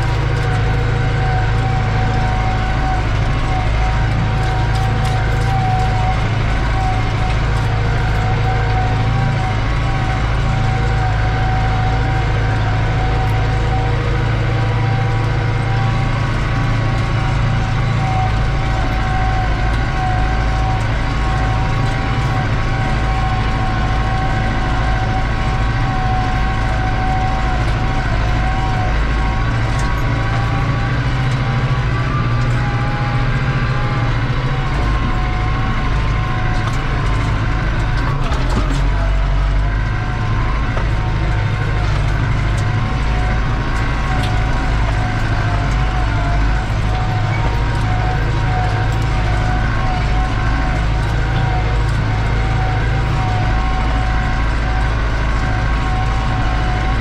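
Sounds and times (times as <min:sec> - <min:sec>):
diesel tractor engine droning: 0:00.0 - 0:57.0
turbo whine: 0:00.0 - 0:57.0.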